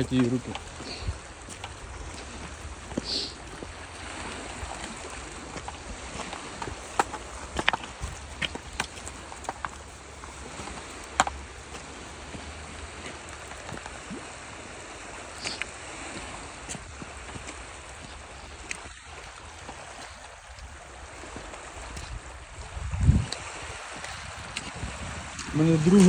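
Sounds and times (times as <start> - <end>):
flowing stream water: 0.0 - 26.0.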